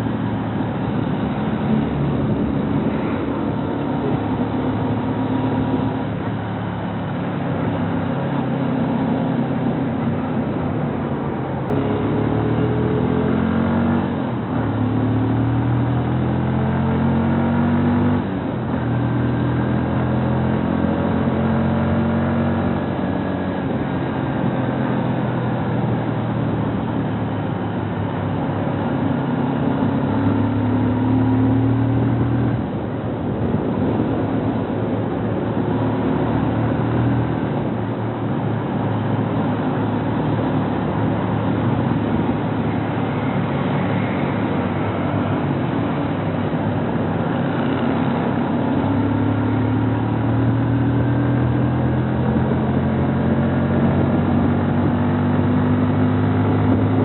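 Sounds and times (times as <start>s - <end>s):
motorcycle engine accelerating: 11.3s - 57.0s.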